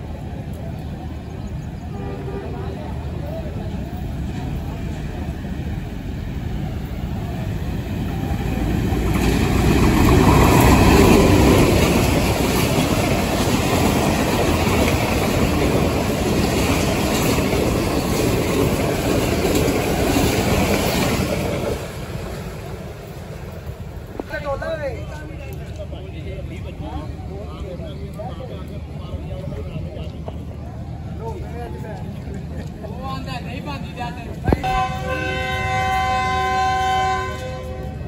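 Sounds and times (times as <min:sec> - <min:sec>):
train rumbling past: 0:00.0 - 0:38.0.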